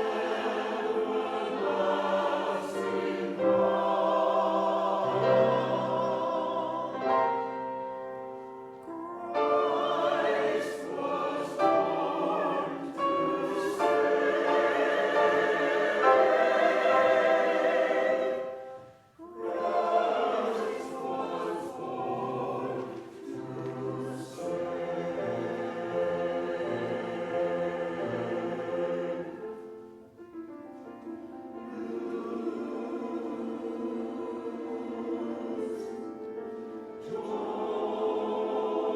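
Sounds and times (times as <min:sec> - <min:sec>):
choir singing in parts: 0:00.0 - 0:38.9.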